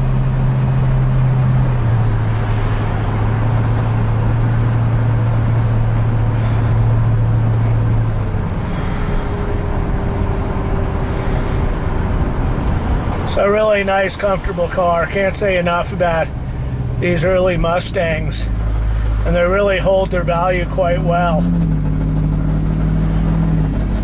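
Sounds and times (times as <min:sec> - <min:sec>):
car engine cruising: 0:00.0 - 0:24.0
tyre and road noise: 0:00.0 - 0:24.0.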